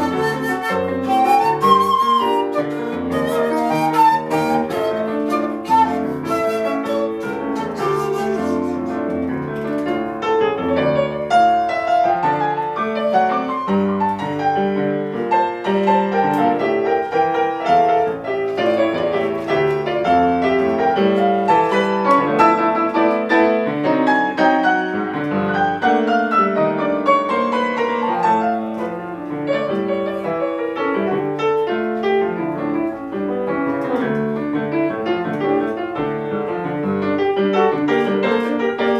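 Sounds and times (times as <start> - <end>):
piano playing arpeggios: 0.0 - 38.9.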